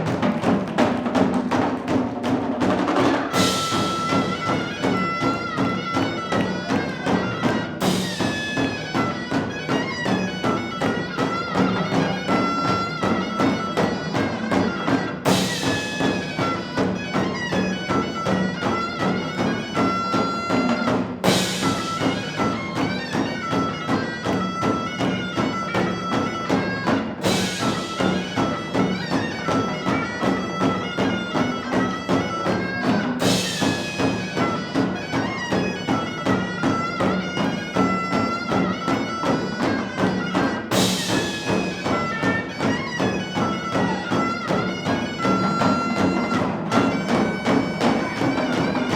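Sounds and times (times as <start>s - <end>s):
fast dense percussion: 0.0s - 48.9s
reedy wind instrument melody: 3.3s - 48.9s.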